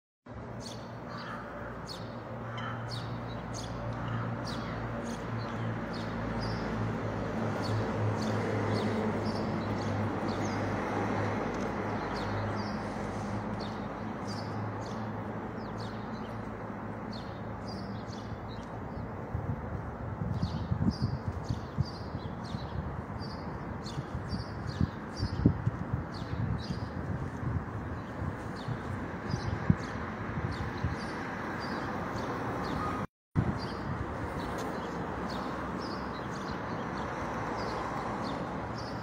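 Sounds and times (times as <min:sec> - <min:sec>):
street noise hum: 0:00.3 - 0:39.0.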